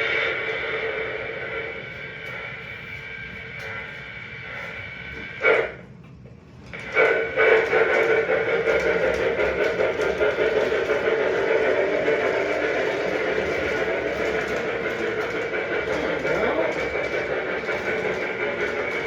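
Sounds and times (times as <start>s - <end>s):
model train locomotive humming: 0.0s - 19.0s.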